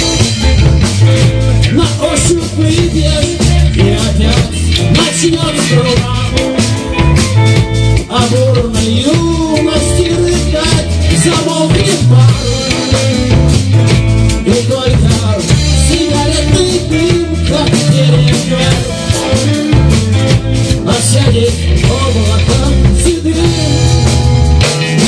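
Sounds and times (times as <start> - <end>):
bass: 0.0 - 25.0
drum kit beat: 0.0 - 25.0
sliding lead melody: 0.0 - 25.0.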